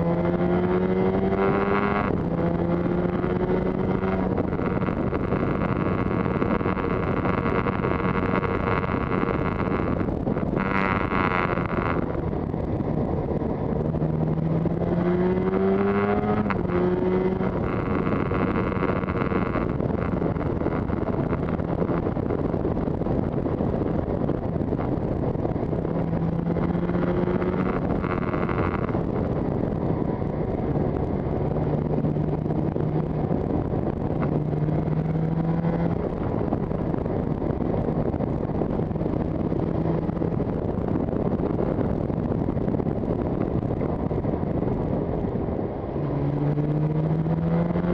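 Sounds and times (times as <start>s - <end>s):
wind noise: 0.0s - 47.9s.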